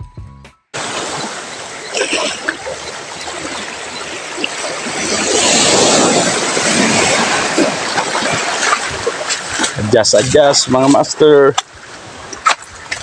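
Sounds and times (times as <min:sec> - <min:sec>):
waves washing over rocks: 0:00.8 - 0:13.0.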